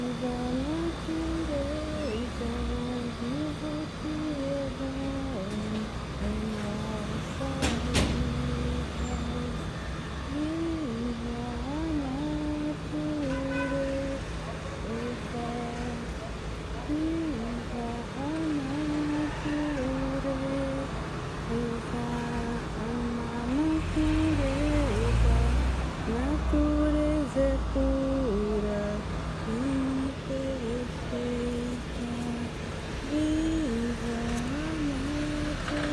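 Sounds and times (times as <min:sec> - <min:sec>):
person humming: 0:00.0 - 0:09.7, 0:10.3 - 0:14.2, 0:16.8 - 0:35.9.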